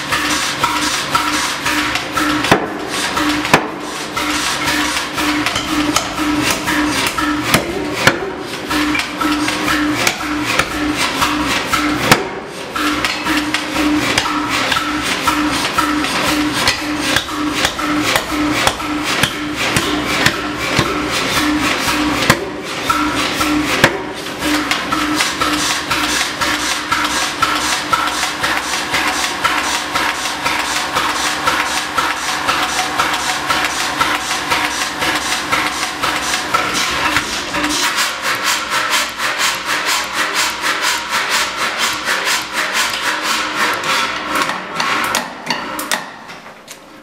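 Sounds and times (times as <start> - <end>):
forging hammer striking anvil: 0.0 - 43.2.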